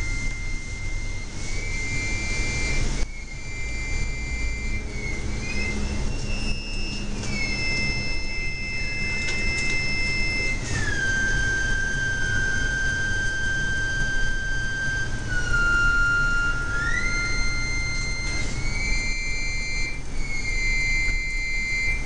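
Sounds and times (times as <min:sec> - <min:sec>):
gliding high synth tone: 0:00.0 - 0:22.0
low rumbling drone: 0:00.0 - 0:22.0.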